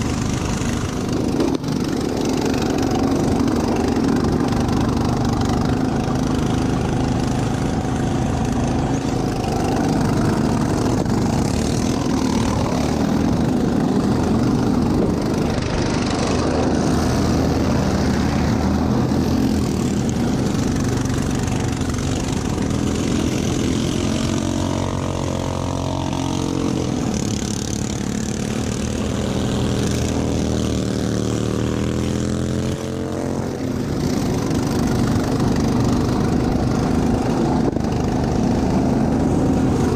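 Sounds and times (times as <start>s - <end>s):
racing lawn mower engine: 0.0s - 39.9s.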